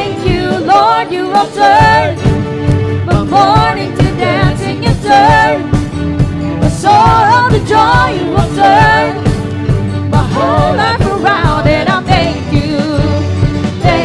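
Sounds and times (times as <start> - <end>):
woman singing into a microphone: 0.0 - 2.2, 3.1 - 5.6, 6.6 - 9.2, 10.1 - 14.0
band playing worship music: 0.0 - 14.0
drum kit beat: 0.0 - 14.0.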